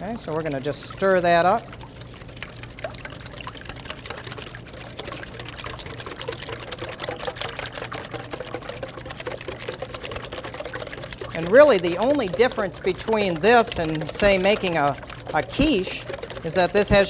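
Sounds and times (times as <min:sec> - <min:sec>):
whisk beating liquid in metal bowl: 0:00.0 - 0:17.0.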